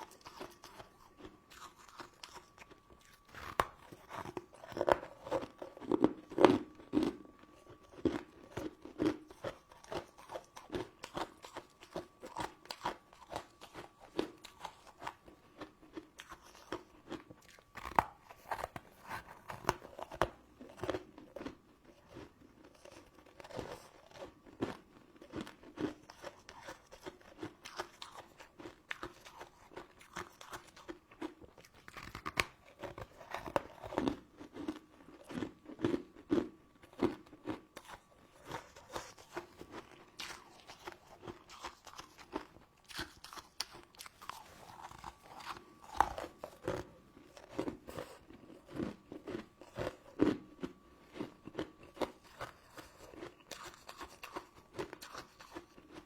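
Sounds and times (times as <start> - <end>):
crunching hard candy: 0.0 - 56.0.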